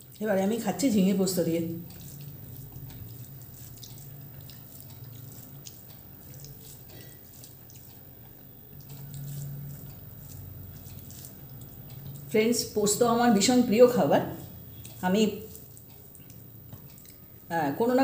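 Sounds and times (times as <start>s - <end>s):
steady low hum: 0.0s - 17.8s
chewing: 0.0s - 18.0s
wet sticky eating clicks: 0.0s - 18.0s.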